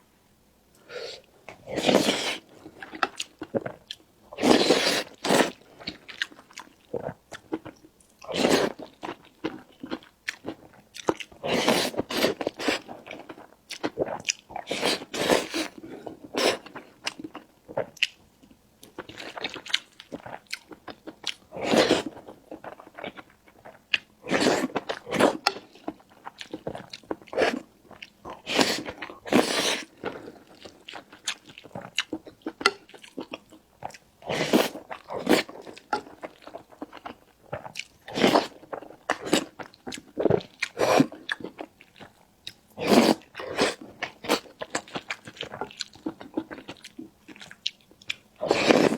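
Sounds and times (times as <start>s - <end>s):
crunching and chewing: 1.5s - 48.9s.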